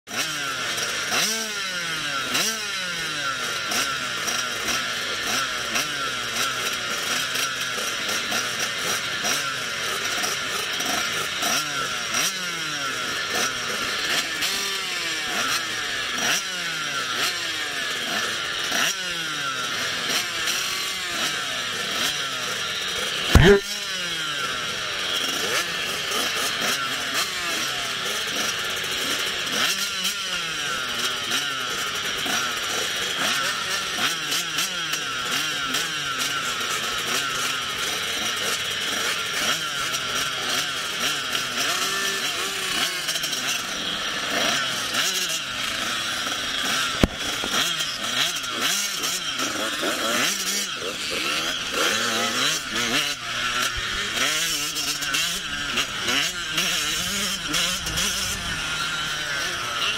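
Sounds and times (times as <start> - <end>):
motocross bike engines buzzing: 0.1 - 59.9.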